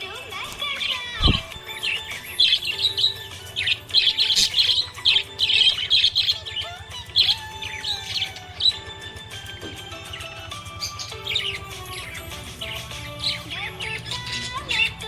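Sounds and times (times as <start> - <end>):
budgerigar chirping: 0.0 - 15.0.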